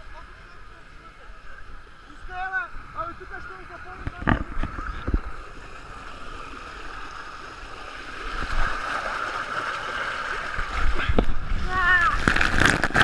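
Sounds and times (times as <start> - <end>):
muffled water rushing down slide: 2.4 - 13.0.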